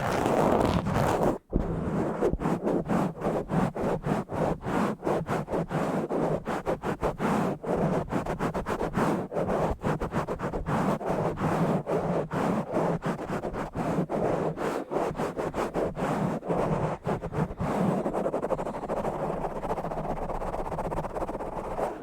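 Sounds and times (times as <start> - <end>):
scratching on a bare microphone: 0.0 - 22.0.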